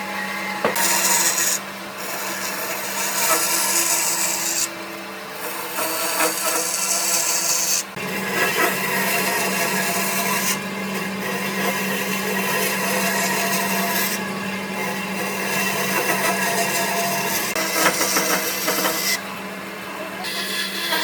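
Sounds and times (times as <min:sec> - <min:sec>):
power tool cutting wood: 0:00.0 - 0:04.8, 0:05.4 - 0:19.2, 0:20.2 - 0:21.0.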